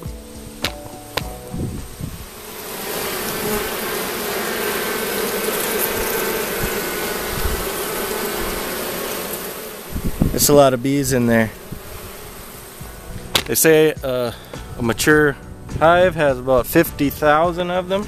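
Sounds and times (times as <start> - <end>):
honey bees buzzing: 0.0 - 18.0.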